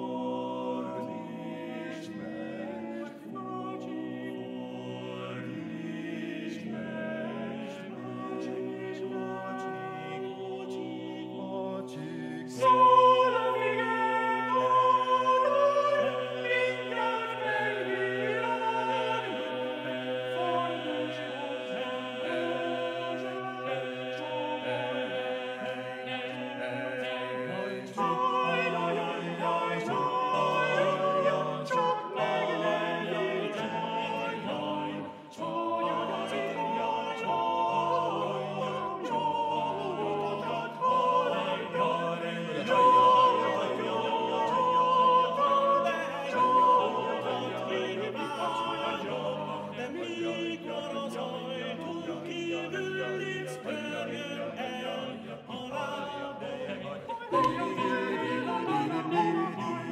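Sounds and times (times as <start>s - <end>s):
male ensemble singing a cappella: 0.0s - 59.9s.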